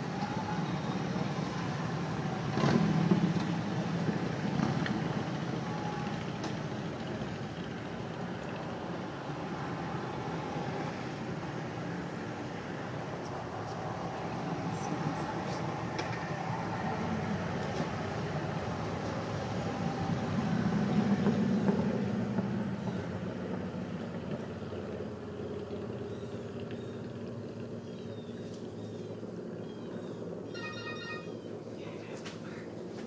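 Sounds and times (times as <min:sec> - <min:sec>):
motorcycles passing: 0:00.0 - 0:32.0.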